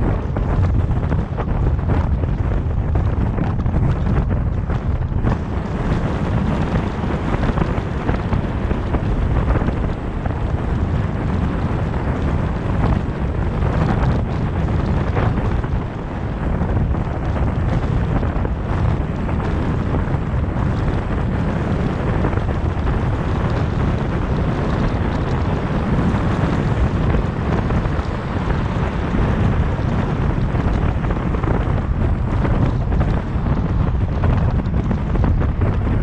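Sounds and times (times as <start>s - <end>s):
car road noise: 0.0s - 36.0s
wind rumble on microphone: 0.0s - 36.0s.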